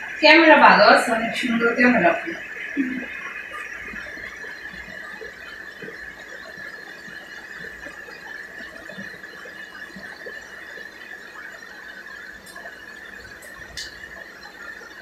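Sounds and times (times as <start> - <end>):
faint crackle: 0.0 - 15.0
steady high-pitched whine: 0.0 - 15.0.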